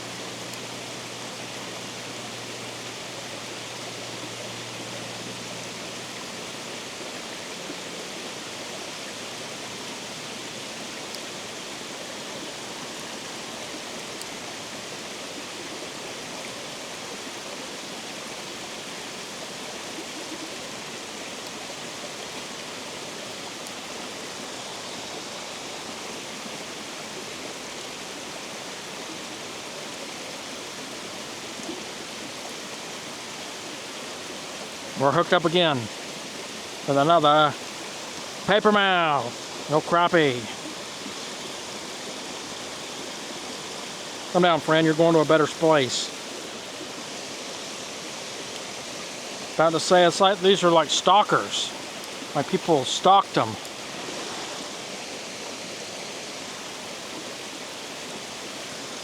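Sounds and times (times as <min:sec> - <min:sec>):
water rushing through spillway: 0:00.0 - 0:59.0.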